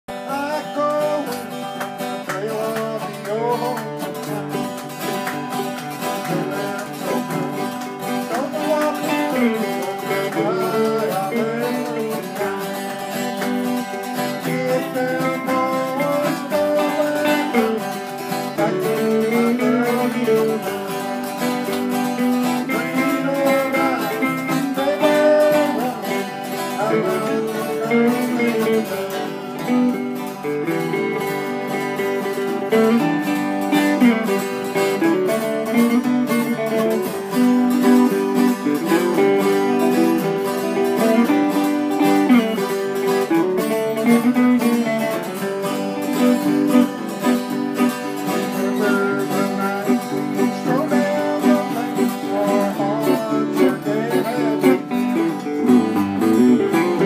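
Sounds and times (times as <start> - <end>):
acoustic guitar strumming: 0.1 - 57.0
man singing: 0.1 - 57.0.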